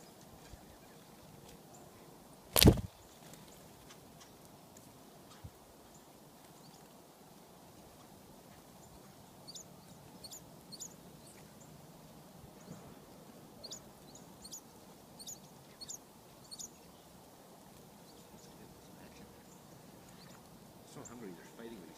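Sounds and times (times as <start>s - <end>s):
songbirds chip calls: 0.0s - 2.0s, 2.6s - 7.0s, 7.9s - 11.8s, 12.5s - 21.9s
faint steady hiss: 0.0s - 21.9s.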